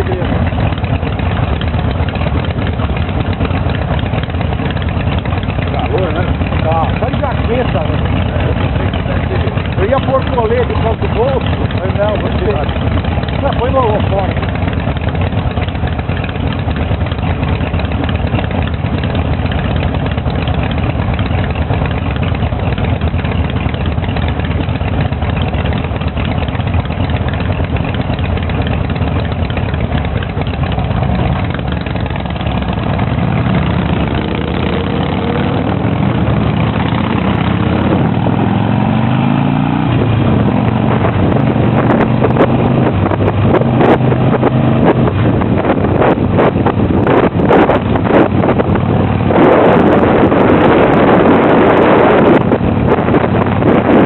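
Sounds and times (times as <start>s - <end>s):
motorcycle engines idling and revving: 0.0s - 54.0s.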